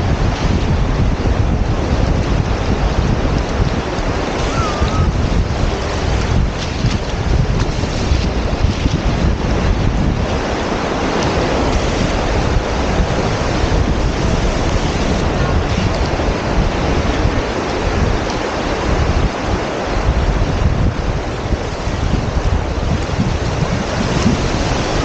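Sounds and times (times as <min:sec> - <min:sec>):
waves washing up a beach: 0:00.0 - 0:25.0
wind buffeting microphone: 0:00.0 - 0:25.0.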